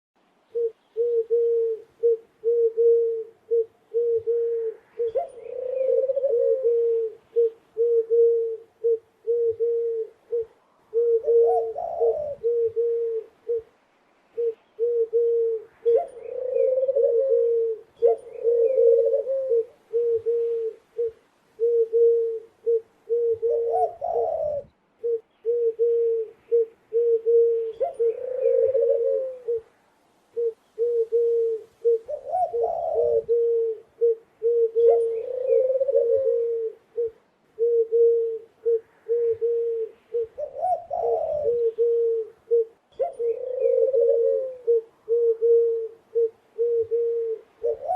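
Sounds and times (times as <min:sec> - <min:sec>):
doves cooing: 0:00.5 - 0:47.9.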